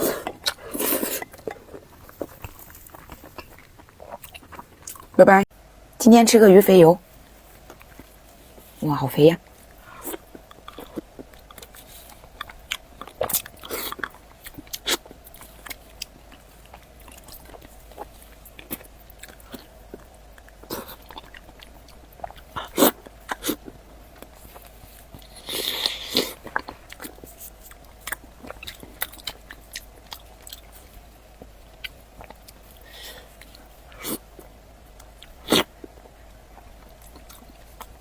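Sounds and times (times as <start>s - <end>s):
biting and chewing food: 0.0s - 5.2s, 9.6s - 38.0s.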